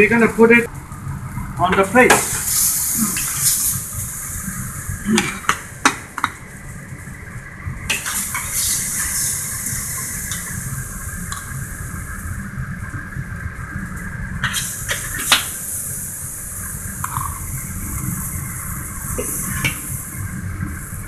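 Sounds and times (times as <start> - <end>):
stir-fry sizzling in a wok: 2.0 - 21.0.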